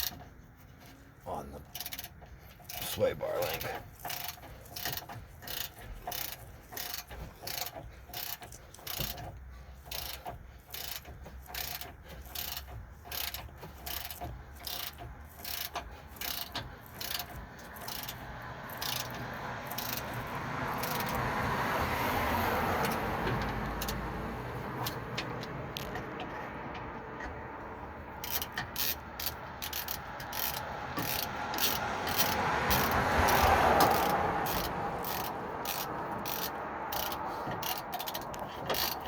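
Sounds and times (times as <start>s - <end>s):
ratchet wrench clicking: 0.0s - 0.3s, 1.6s - 27.3s, 28.1s - 39.0s.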